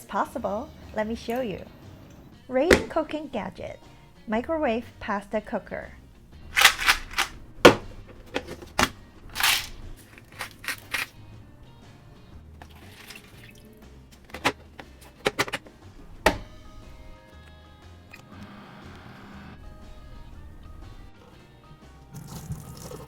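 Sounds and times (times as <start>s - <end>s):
quiet background music: 0.0s - 23.0s.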